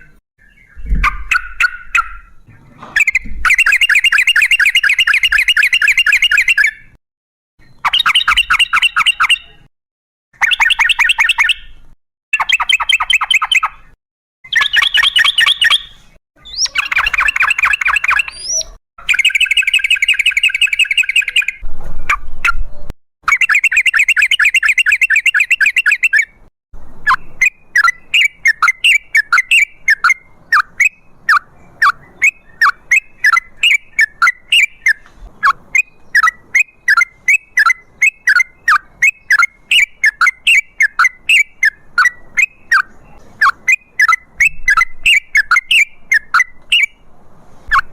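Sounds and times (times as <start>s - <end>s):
bird sharp repeated notes: 0.0s - 2.4s, 3.0s - 7.0s, 7.6s - 9.6s, 10.4s - 22.6s, 23.3s - 47.0s
bird chattering calls: 0.5s - 6.8s, 7.9s - 9.6s, 12.4s - 21.6s, 23.3s - 26.3s, 27.1s - 46.9s.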